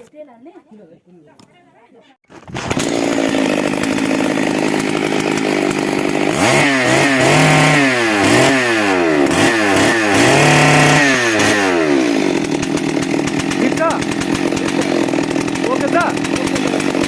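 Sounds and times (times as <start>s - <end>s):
chainsaw engine revving: 2.4s - 17.0s.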